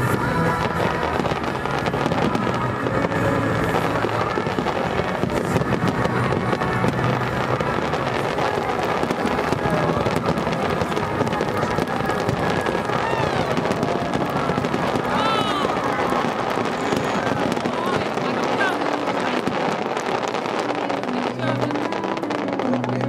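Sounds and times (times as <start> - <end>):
fireworks bursting and crackling: 0.0 - 23.0
music playing: 0.0 - 23.0.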